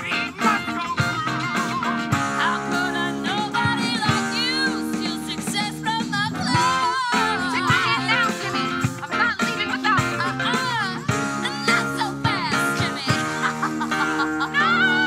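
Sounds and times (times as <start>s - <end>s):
live rock band: 0.0s - 15.0s
voices singing: 0.0s - 15.0s.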